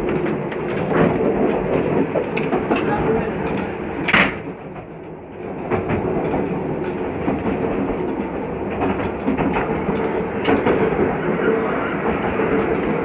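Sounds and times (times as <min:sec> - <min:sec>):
rail joint clicks: 0:00.0 - 0:13.0
train wheels rumbling on rail: 0:00.0 - 0:13.0.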